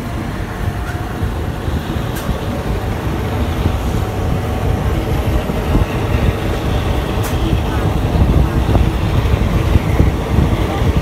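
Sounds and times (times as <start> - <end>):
train rumbling on track: 0.0 - 11.0
wind noise: 0.0 - 11.0.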